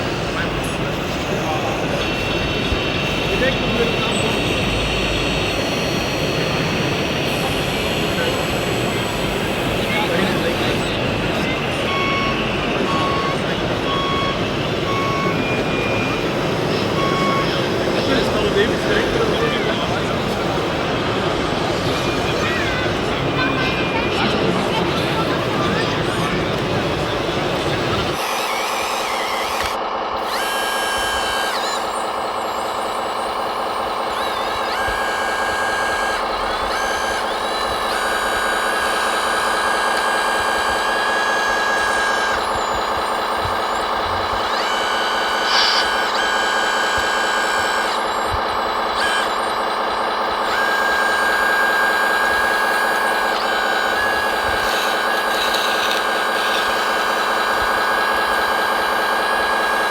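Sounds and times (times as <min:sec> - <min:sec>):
engine drone: 0:00.0 - 0:59.9
high steady tone: 0:00.0 - 0:59.9.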